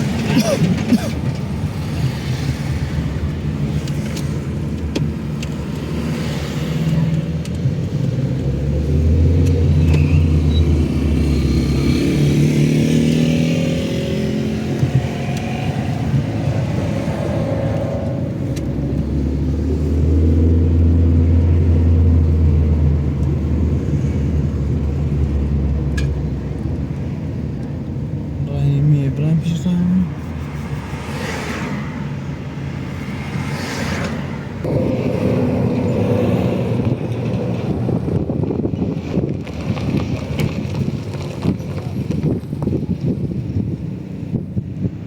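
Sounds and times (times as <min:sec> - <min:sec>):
car engine accelerating: 0:00.0 - 0:44.7
road noise: 0:00.0 - 0:45.0.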